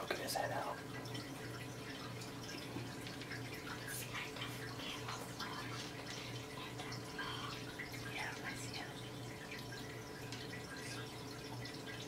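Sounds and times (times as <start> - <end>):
low pump hum: 0.0 - 12.0
water drips: 0.0 - 12.0
water trickling into tank: 0.0 - 12.0.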